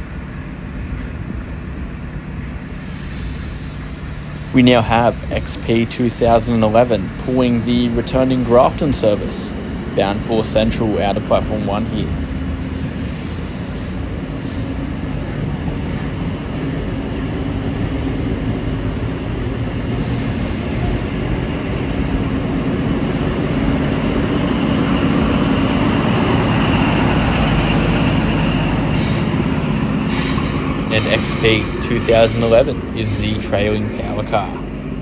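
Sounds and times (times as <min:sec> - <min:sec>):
diesel train departing drone: 0:00.0 - 0:35.0.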